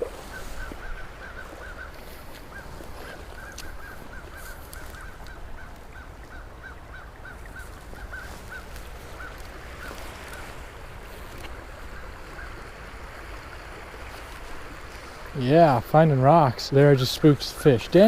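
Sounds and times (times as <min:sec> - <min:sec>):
birds calling: 0:00.0 - 0:12.6, 0:15.2 - 0:18.0
stream rushing: 0:00.0 - 0:18.0.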